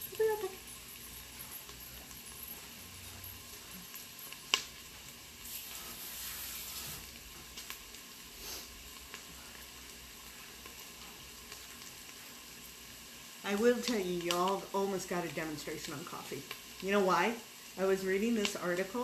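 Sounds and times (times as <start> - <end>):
onions sizzling: 0.0 - 19.0.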